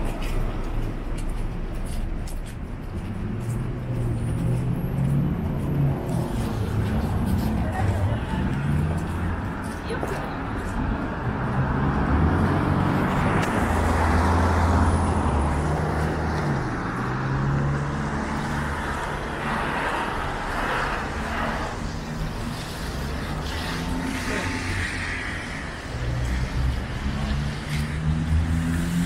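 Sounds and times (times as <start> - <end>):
cars driving past: 0.0 - 29.0.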